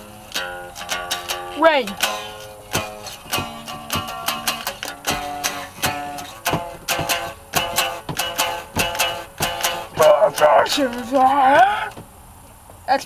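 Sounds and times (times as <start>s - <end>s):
small stringed instrument strummed: 0.0s - 12.0s.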